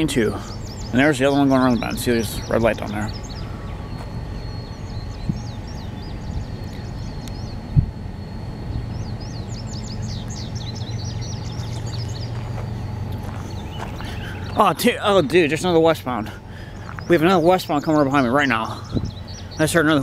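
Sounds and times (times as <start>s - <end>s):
freight train diesel rumble: 0.0s - 20.0s
songbirds chirping: 0.0s - 20.0s.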